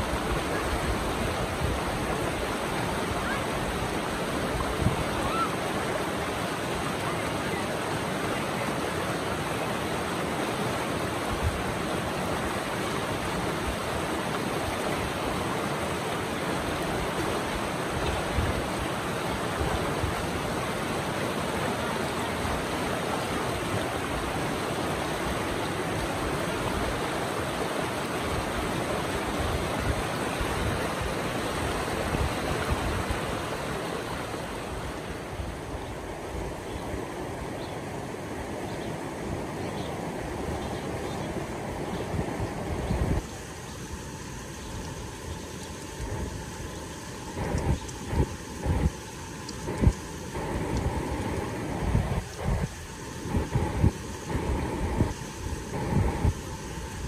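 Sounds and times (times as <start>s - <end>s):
river rapids rushing over boulders: 0.0s - 57.0s.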